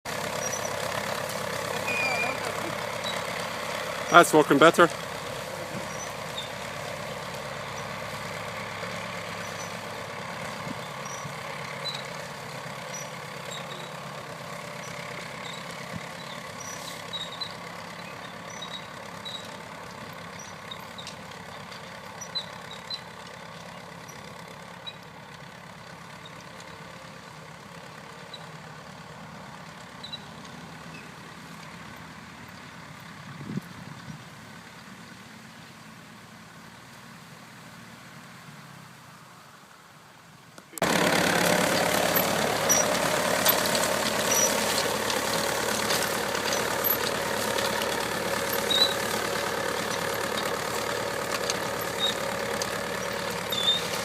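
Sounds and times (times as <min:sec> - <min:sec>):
tractor engine running: 0:00.0 - 0:39.3, 0:40.2 - 0:54.0.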